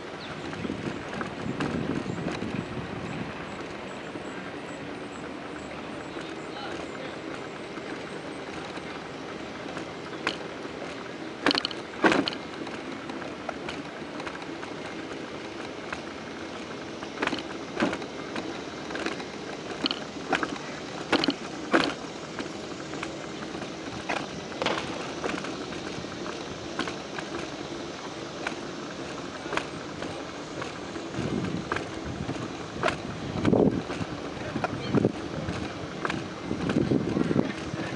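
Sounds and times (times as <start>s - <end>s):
wheels rolling on concrete: 0.0s - 37.9s.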